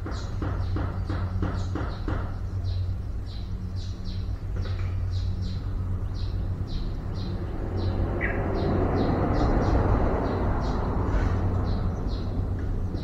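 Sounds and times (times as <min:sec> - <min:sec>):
small bird chirping: 0:00.0 - 0:13.0
steady low hum: 0:00.0 - 0:13.0.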